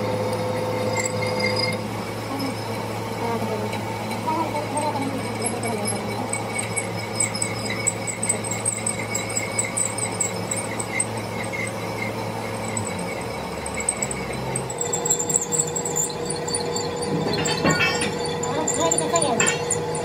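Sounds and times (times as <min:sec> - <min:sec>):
drill cutting squeal: 0:00.0 - 0:20.0
lathe machine hum: 0:00.0 - 0:20.0.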